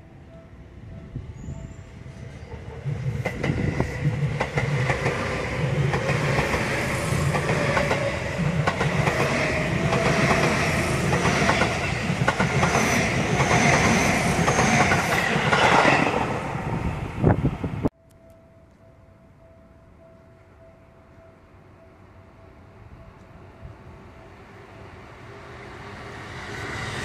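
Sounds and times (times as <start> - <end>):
electric train rumbling past: 0.0 - 17.9, 18.8 - 27.0.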